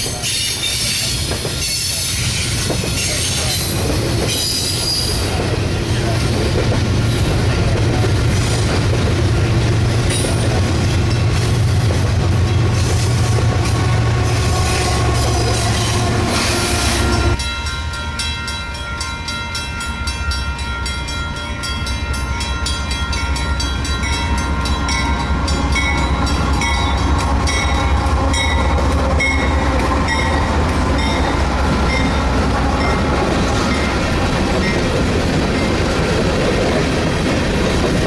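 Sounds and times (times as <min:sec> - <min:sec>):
train rumbling past: 0:00.0 - 0:38.0.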